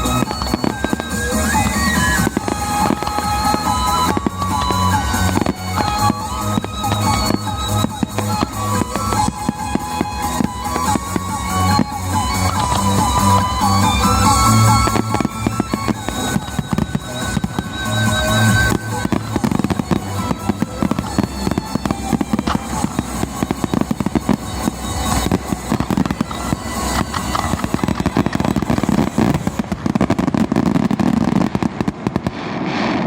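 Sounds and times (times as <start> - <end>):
show music playing: 0.0 - 31.6
firework shells bursting: 0.0 - 33.0.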